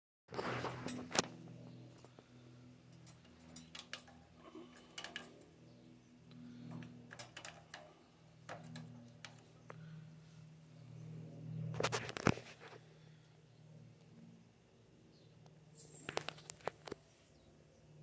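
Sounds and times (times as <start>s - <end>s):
faint electrical hum: 0.3s - 18.0s.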